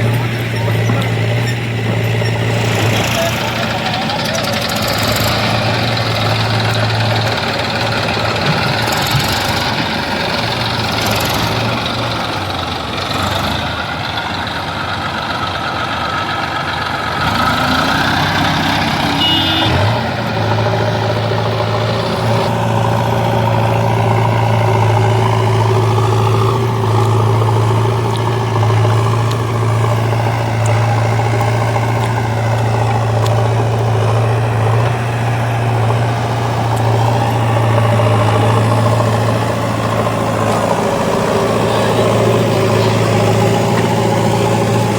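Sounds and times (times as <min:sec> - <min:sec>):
heavy diesel engine: 0:00.0 - 0:44.9.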